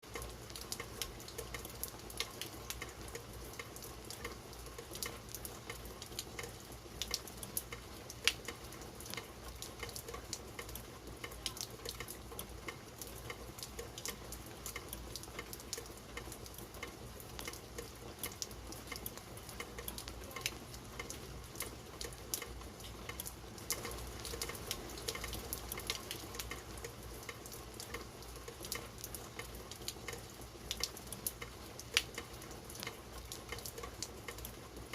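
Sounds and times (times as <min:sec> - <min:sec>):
raindrops ticking: 0:00.0 - 0:34.9
rain hiss: 0:00.1 - 0:34.9.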